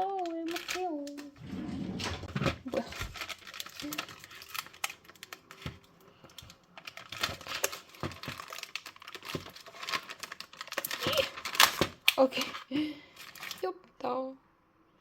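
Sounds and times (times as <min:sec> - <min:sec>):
plastic packaging snapping: 0:00.0 - 0:01.3, 0:02.7 - 0:13.6
plastic packaging crinkling: 0:00.0 - 0:01.4, 0:02.2 - 0:13.7.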